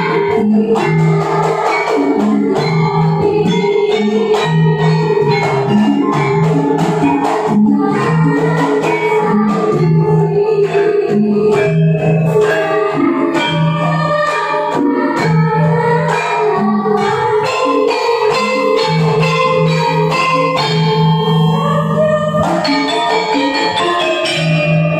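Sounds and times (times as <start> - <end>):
ringing bronze metallophones: 0.0 - 24.9.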